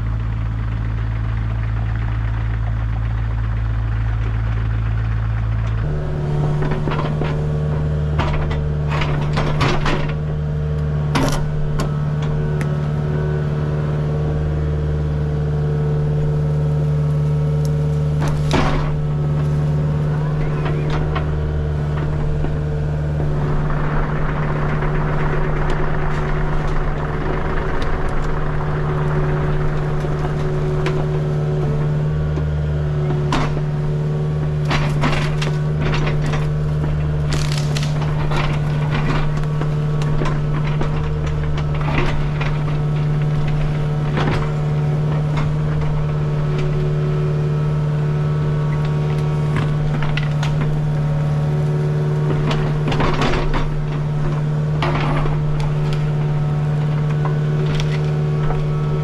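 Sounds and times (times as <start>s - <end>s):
excavator engine running: 0.0s - 59.0s
brush and wood cracking: 0.2s - 59.0s.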